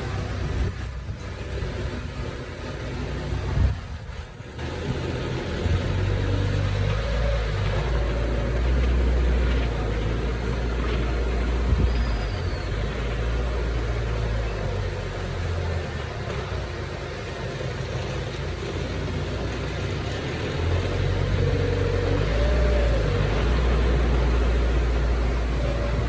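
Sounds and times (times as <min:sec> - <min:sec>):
heavy diesel engine droning: 0:00.0 - 0:26.0.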